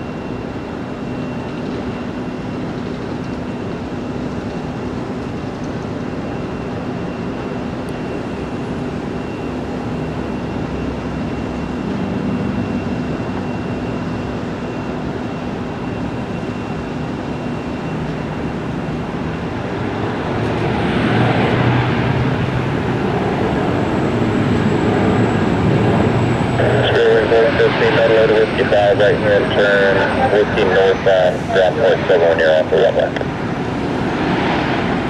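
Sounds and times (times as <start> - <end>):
aircraft engines droning: 0.0 - 35.0
faint engine whine: 0.0 - 35.0.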